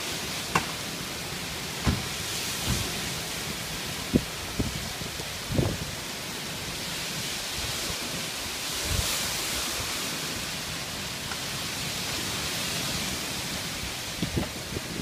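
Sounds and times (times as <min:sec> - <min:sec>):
heavy rain pouring: 0:00.0 - 0:15.0
wind: 0:00.0 - 0:15.0.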